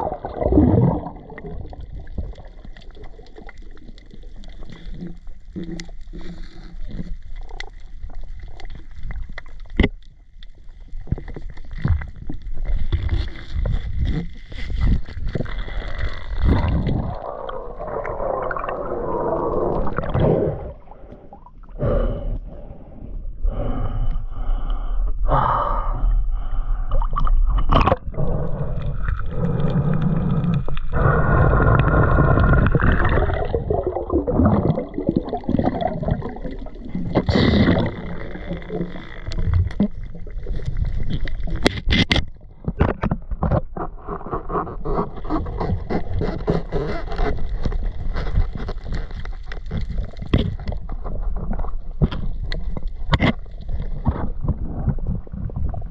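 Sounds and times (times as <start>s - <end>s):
underwater gurgling and bubbles: 0.0s - 55.9s.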